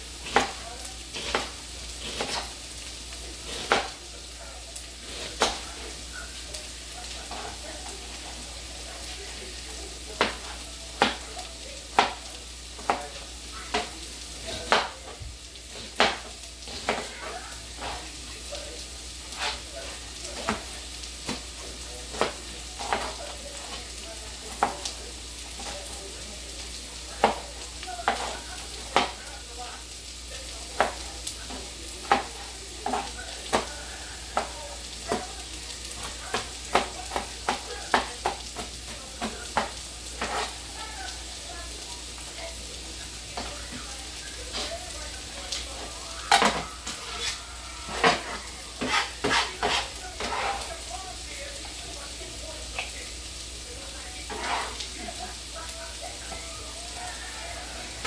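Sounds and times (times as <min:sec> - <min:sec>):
vegetables sizzling in a frying pan: 0:00.0 - 0:58.0.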